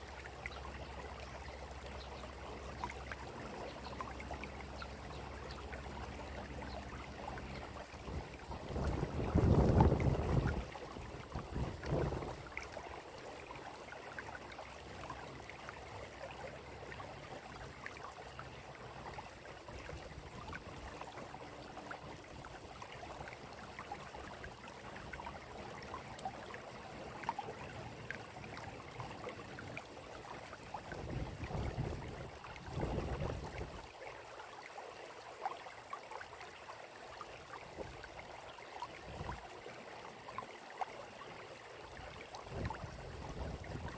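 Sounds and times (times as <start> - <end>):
water trickling and dripping: 0.0 - 43.9.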